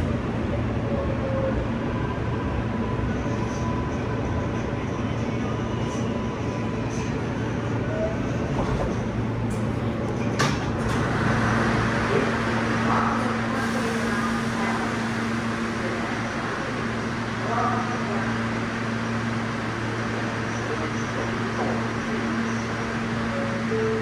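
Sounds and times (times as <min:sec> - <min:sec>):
subway car hum and rushing: 0:00.0 - 0:24.0.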